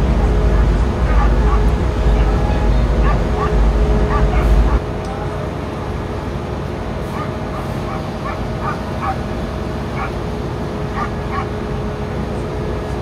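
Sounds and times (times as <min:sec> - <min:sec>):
loud low rumble: 0:00.0 - 0:13.0
machine hum: 0:00.0 - 0:13.0.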